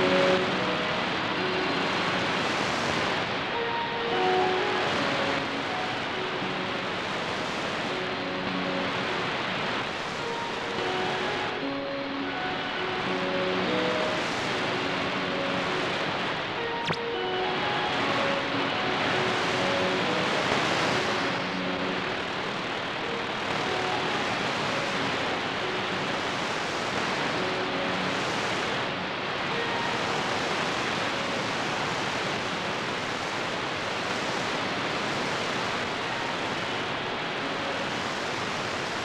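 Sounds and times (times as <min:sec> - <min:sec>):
faint radio tones: 0:00.0 - 0:39.0
radio static hiss: 0:00.0 - 0:39.0.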